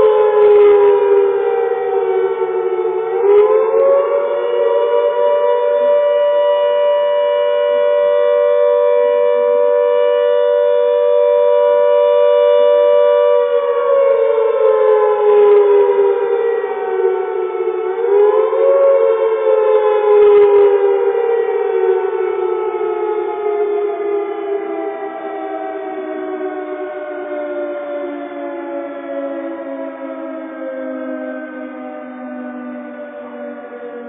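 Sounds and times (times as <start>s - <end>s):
warning siren two-note chord: 0.0s - 34.0s.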